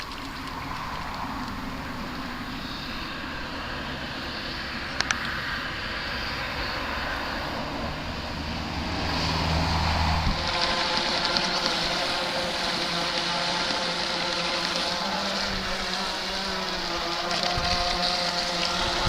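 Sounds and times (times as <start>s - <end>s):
electric boat motor: 0.0s - 19.0s.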